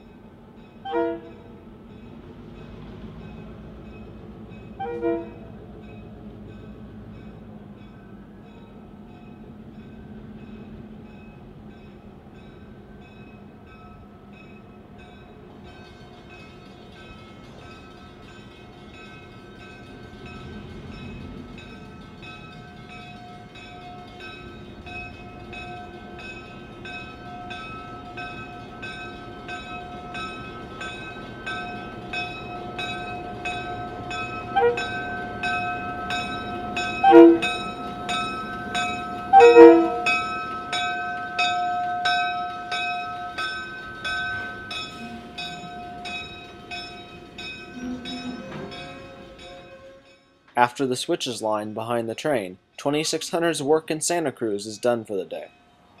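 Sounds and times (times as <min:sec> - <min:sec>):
locomotive bell ringing: 0:00.0 - 0:51.5.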